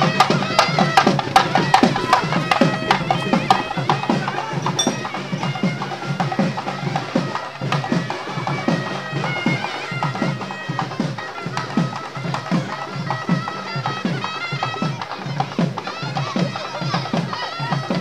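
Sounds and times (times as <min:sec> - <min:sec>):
drums beating: 0:00.0 - 0:18.0
reed wind instrument melody: 0:00.0 - 0:18.0.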